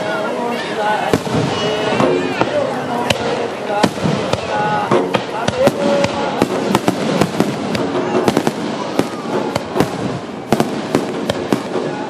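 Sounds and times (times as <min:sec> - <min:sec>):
fireworks bangs: 0:00.8 - 0:12.0.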